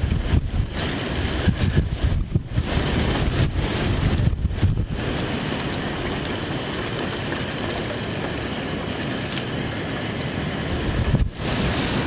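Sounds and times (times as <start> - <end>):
steady rain: 0.0 - 12.0
wind rumble: 0.0 - 12.0.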